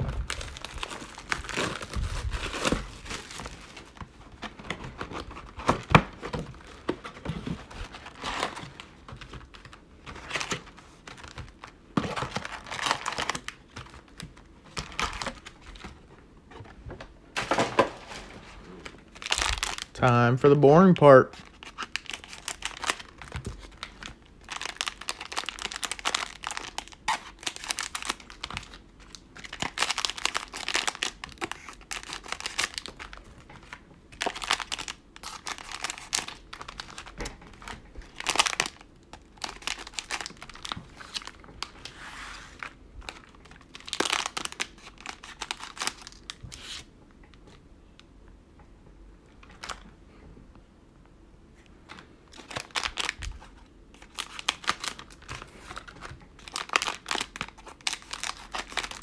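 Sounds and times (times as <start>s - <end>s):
plastic wrappers crinkling: 0.0s - 15.9s, 18.8s - 20.1s, 21.1s - 46.9s, 49.4s - 49.8s, 52.3s - 59.0s.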